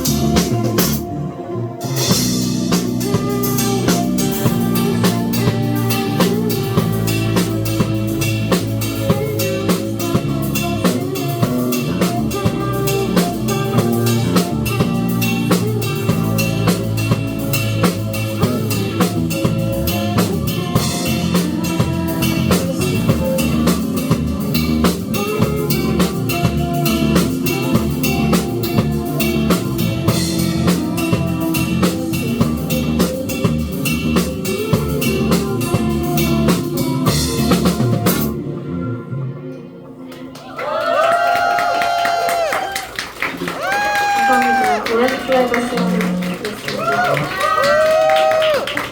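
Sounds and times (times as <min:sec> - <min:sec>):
live band playing: 0:00.0 - 0:48.9.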